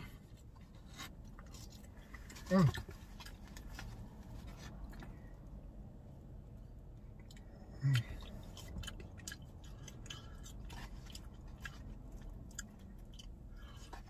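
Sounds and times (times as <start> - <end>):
man chewing with wet smacks: 0.0 - 5.5, 6.7 - 14.0.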